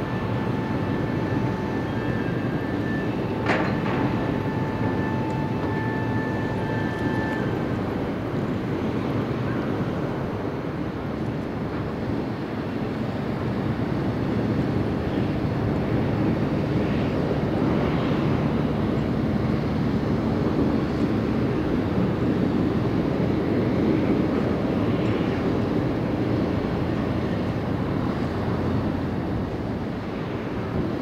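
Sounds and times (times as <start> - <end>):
diesel engine drone with hiss: 0.0 - 31.0.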